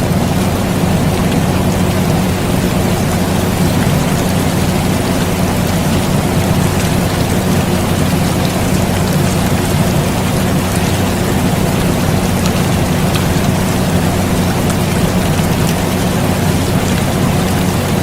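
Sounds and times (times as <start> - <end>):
air conditioner humming: 0.0 - 18.0
steady rain: 0.0 - 18.0.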